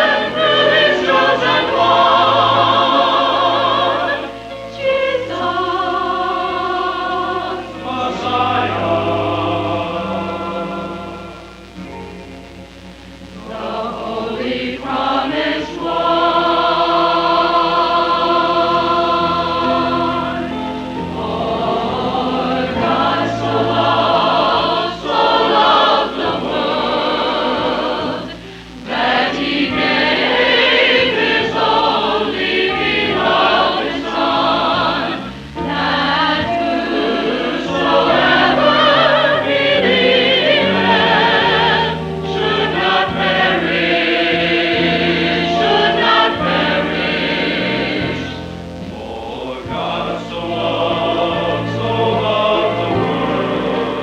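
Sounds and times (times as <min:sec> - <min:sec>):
choir singing in harmony: 0:00.0 - 0:54.0.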